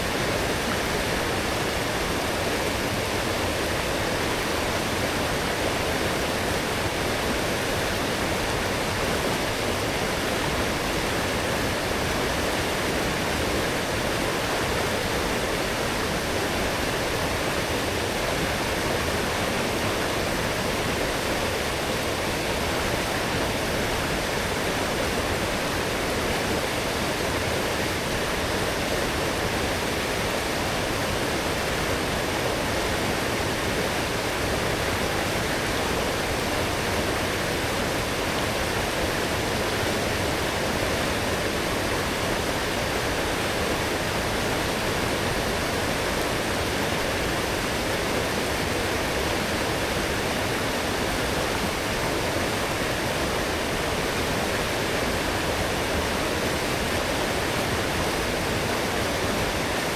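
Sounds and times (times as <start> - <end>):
stream rushing water: 0.0 - 59.9.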